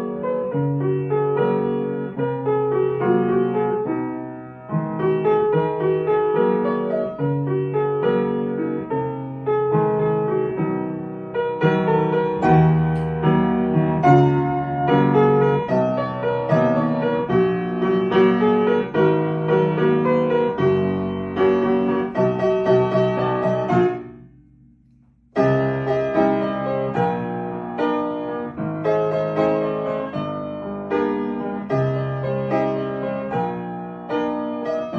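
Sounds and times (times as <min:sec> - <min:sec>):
piano music: 0:00.0 - 0:34.9.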